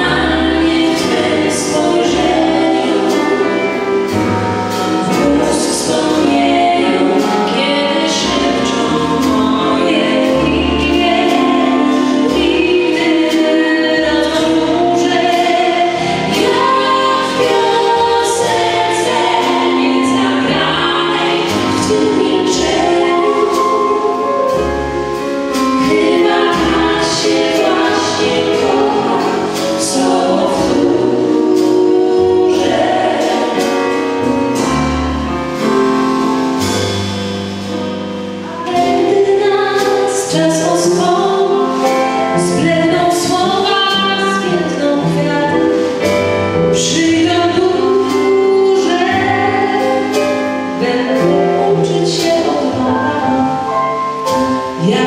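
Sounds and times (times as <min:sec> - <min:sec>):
women singing together: 0:00.0 - 0:04.0, 0:04.9 - 0:24.8, 0:25.6 - 0:34.4, 0:38.6 - 0:46.0, 0:46.7 - 0:53.7, 0:54.5 - 0:55.0
double bass: 0:00.0 - 0:55.0
drums and cymbals: 0:00.0 - 0:55.0
piano: 0:00.0 - 0:55.0.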